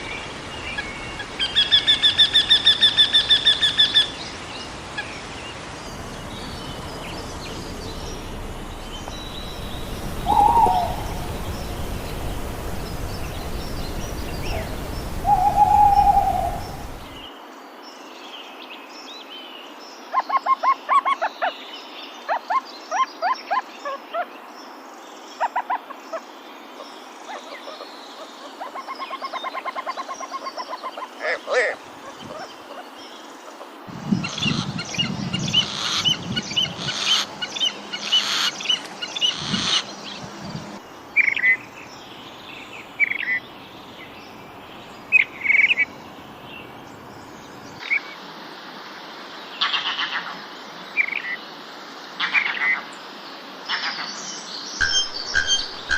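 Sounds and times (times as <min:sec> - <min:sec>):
birds calling and singing: 0:00.0 - 0:17.4, 0:25.4 - 0:48.5, 0:49.4 - 0:55.9.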